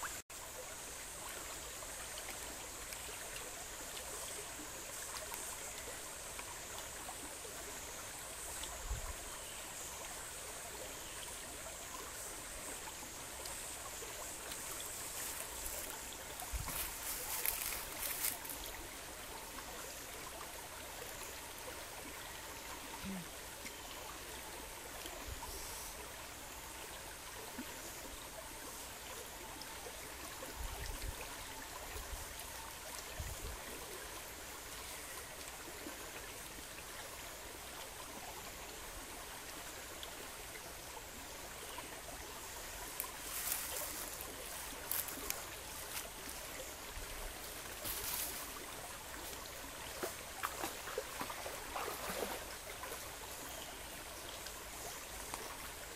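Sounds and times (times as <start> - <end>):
stream running over rocks: 0.0 - 55.9.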